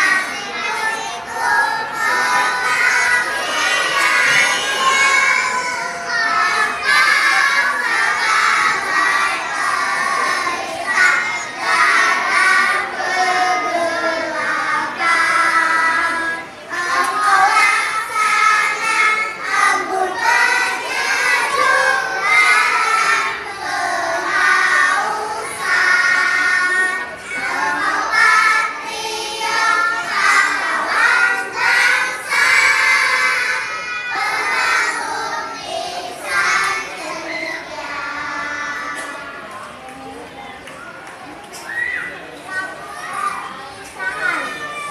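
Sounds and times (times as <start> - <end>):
children singing together: 0.0 - 39.7.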